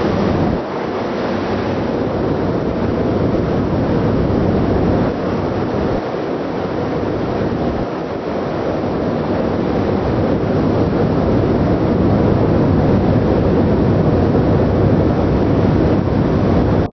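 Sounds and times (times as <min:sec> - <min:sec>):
ship engine rumble: 0:00.0 - 0:16.9
wind on microphone: 0:00.0 - 0:16.9.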